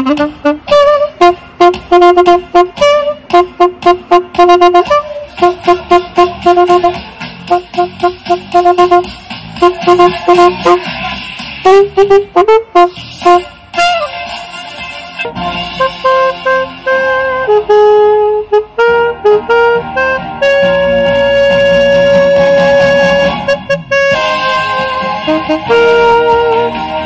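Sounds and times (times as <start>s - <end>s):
saxophone playing staccato riff: 0.0s - 14.6s, 15.2s - 27.0s
backing track with steady beat: 0.0s - 27.0s.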